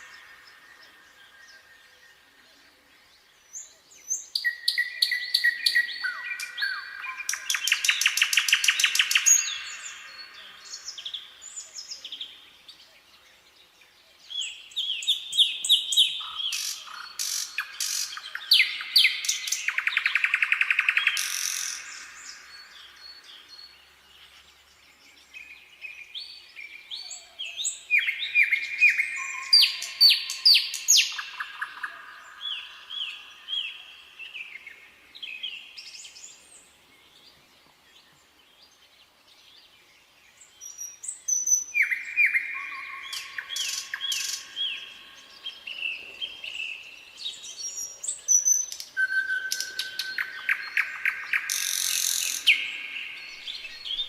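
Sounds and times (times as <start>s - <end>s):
nightingale singing trills: 0.0s - 54.0s.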